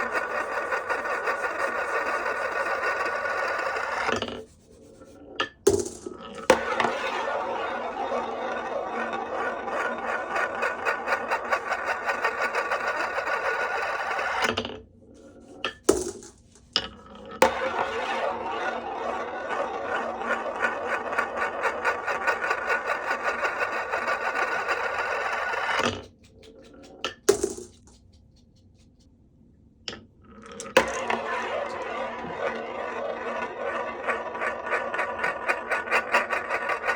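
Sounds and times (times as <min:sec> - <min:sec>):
marbles rattling on wooden track: 0:00.0 - 0:04.1, 0:05.7 - 0:14.4, 0:17.4 - 0:27.9, 0:30.5 - 0:36.9
marble clacks: 0:00.0 - 0:04.4, 0:05.4 - 0:14.6, 0:15.4 - 0:29.0, 0:29.9 - 0:36.9.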